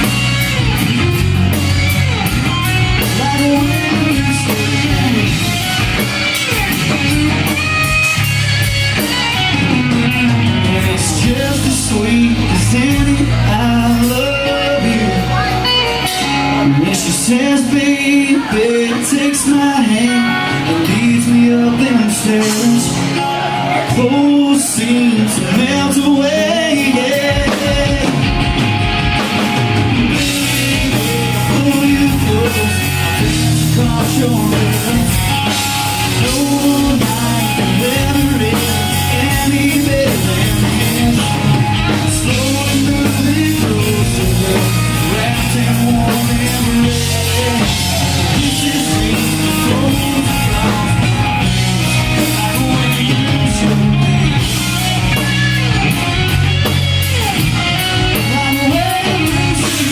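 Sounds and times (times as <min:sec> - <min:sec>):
electric guitar lines: 0:00.0 - 0:59.9
rock band playing: 0:00.0 - 0:59.9.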